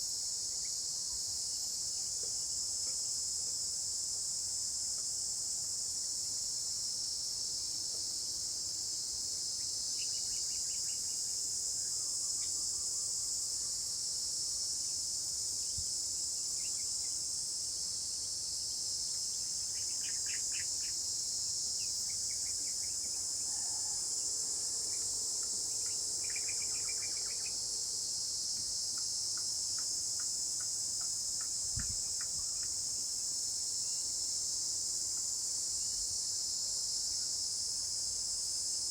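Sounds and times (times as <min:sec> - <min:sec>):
high-pitched insect chorus: 0:05.3 - 0:38.9.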